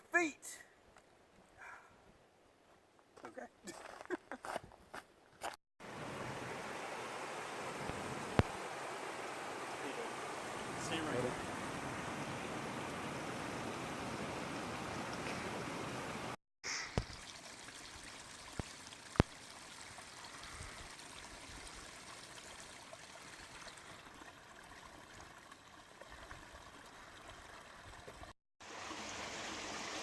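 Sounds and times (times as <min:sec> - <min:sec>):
stream water running: 0:05.8 - 0:30.0.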